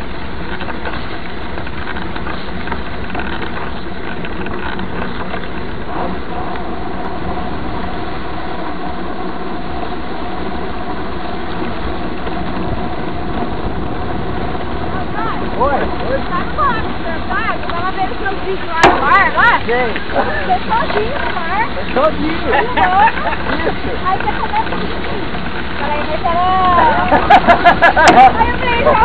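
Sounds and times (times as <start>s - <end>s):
bike tyres rolling on dirt: 0.0s - 29.0s
wind rumble on microphone: 0.0s - 29.0s.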